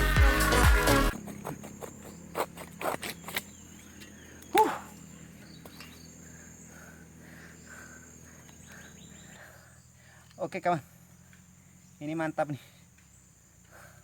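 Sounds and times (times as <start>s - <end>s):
faint regular chirps: 1.1s - 14.0s
insect drone: 1.1s - 14.0s.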